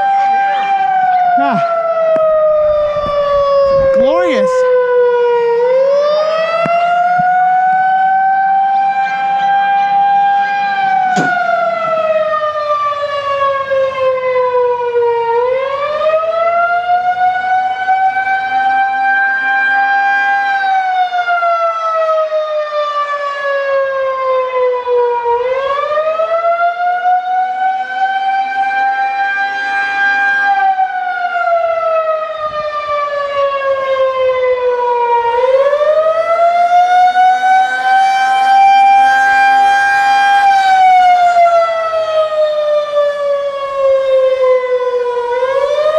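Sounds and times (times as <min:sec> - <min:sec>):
warning siren wailing: 0:00.0 - 0:45.9.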